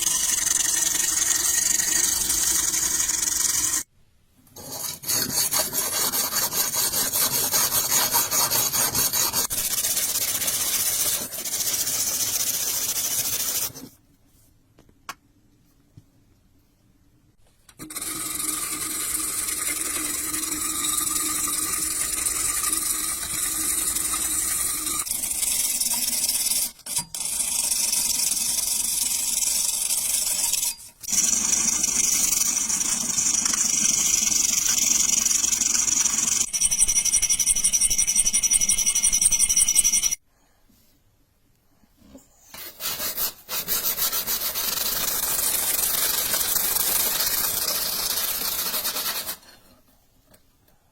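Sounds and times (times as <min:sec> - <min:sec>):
grinding steel blade: 0:00.0 - 0:03.9, 0:04.6 - 0:13.8, 0:17.8 - 0:40.2, 0:42.6 - 0:49.7.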